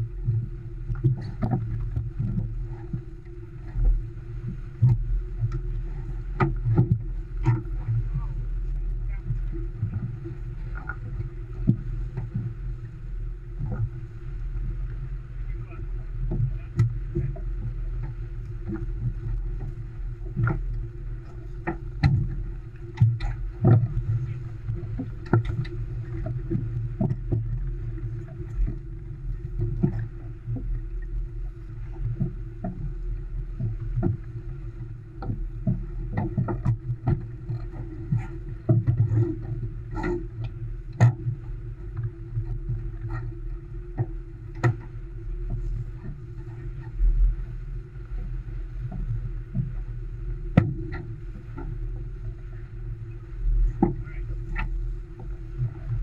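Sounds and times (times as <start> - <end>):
wind and water rushing: 0.0 - 56.0.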